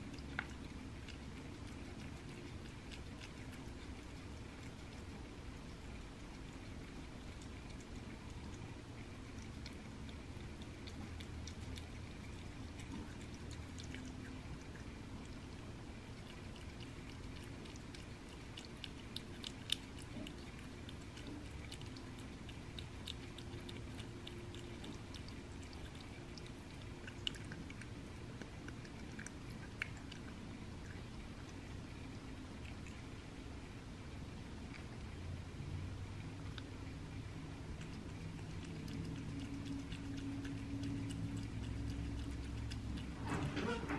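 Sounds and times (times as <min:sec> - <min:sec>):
cat chewing wetly: 0:00.0 - 0:43.9.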